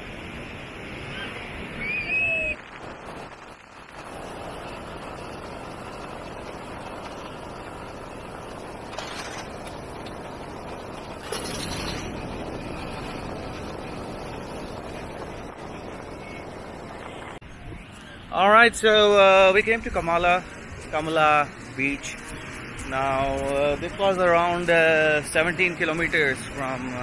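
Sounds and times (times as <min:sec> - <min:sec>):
sea surf: 0:00.0 - 0:17.4, 0:18.4 - 0:27.0
wind: 0:00.0 - 0:27.0
wind buffeting microphone: 0:00.0 - 0:27.0.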